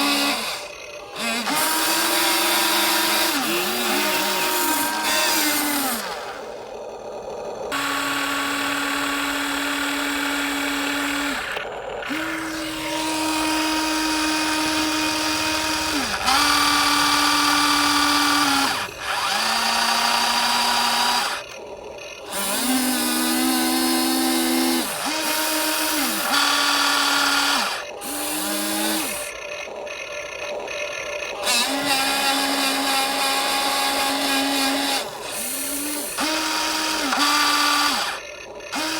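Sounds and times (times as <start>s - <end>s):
small electric motors whining: 0.0s - 38.9s.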